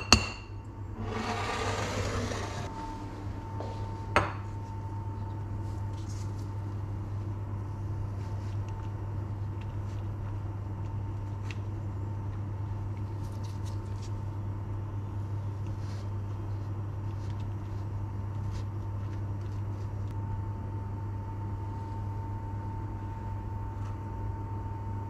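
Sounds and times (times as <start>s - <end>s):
steady low hum: 0.6s - 25.0s.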